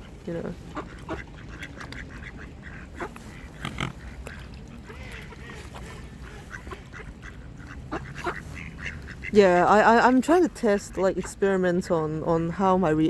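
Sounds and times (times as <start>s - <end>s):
waterfowl honking and grunting: 0.0s - 11.5s.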